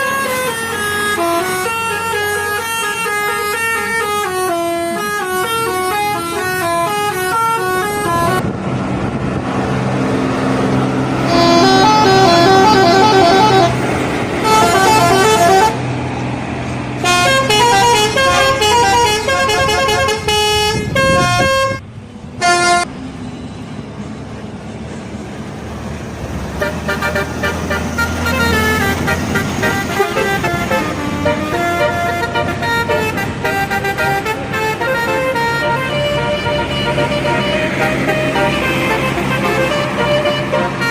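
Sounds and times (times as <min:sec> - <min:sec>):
bus horn playing melodies: 0:00.0 - 0:08.5, 0:11.2 - 0:16.2, 0:17.0 - 0:21.8, 0:22.4 - 0:22.9, 0:26.5 - 0:40.9
bus engine running: 0:00.0 - 0:40.9.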